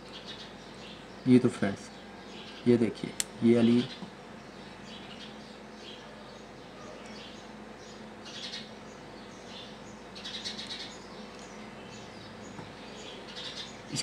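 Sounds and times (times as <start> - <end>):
small bird chirping: 0.0 - 2.7, 3.4 - 14.0.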